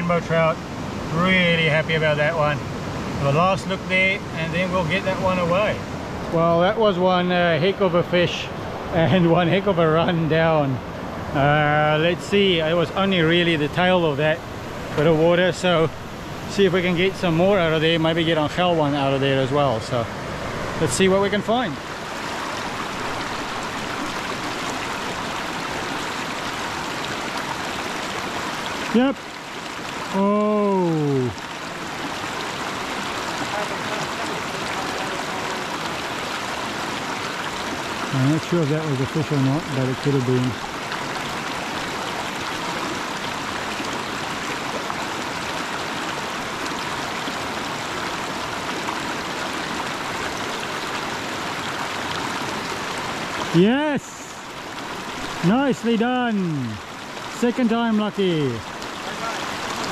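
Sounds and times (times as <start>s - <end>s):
river rapids rushing over stones: 0.0s - 59.9s.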